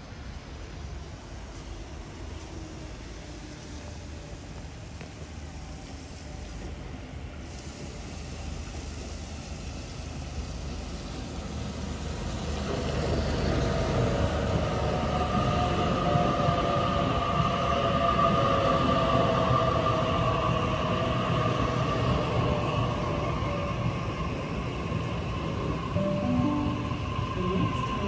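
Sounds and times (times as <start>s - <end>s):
train rumble on track: 0.0s - 28.0s.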